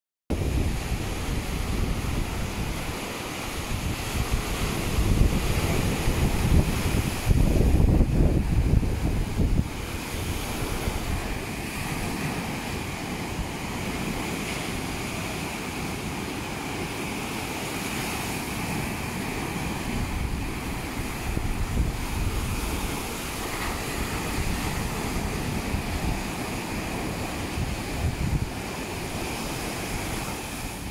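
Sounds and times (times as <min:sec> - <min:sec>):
surf breaking on beach: 0:00.3 - 0:30.9
wind buffeting microphone: 0:00.3 - 0:30.9.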